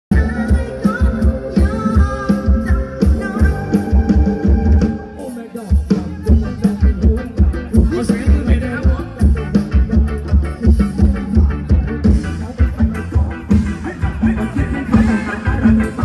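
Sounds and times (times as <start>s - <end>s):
bass: 0.0s - 16.0s
drum kit beat: 0.1s - 16.0s
person singing: 0.1s - 16.0s.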